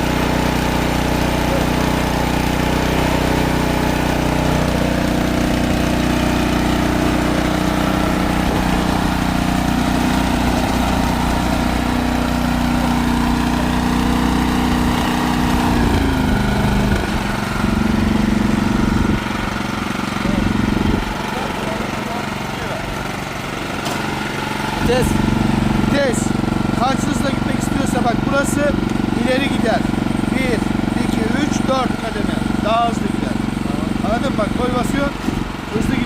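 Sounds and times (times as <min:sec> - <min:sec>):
snowblower engine running: 0:00.0 - 0:36.0.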